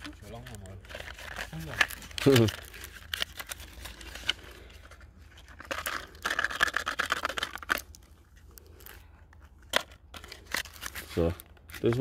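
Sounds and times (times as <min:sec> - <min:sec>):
paper tubes rustling and clicking: 0:00.0 - 0:12.0.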